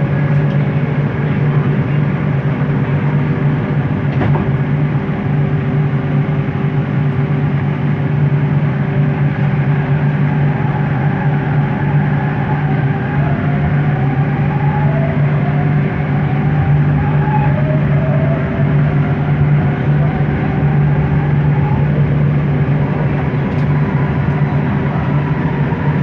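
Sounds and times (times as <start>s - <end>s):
rising whine: 0.0s - 26.0s
train motor hum: 0.0s - 26.0s
wheel and track noise: 0.0s - 26.0s.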